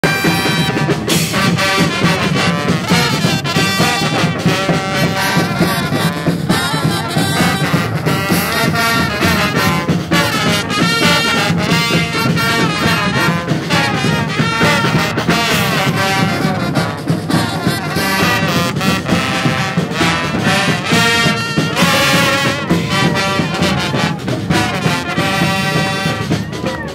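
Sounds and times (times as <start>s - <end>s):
brass band playing: 0.0s - 26.9s.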